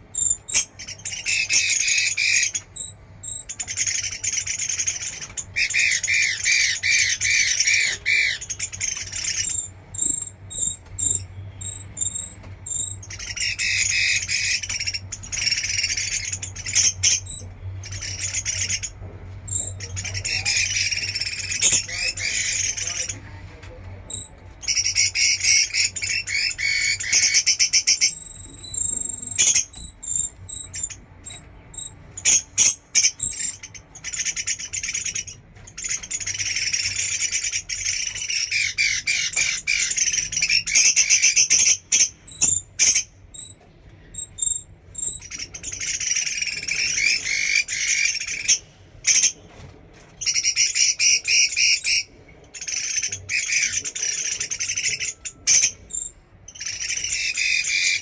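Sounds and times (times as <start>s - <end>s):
songbird singing chattering song: 0.0s - 23.3s, 24.1s - 49.4s, 50.2s - 58.0s.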